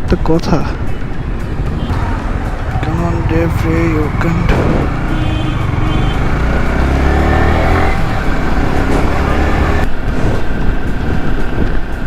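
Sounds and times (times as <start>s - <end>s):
road and wind noise: 0.0s - 12.0s
motorcycle engine accelerating: 1.4s - 11.7s.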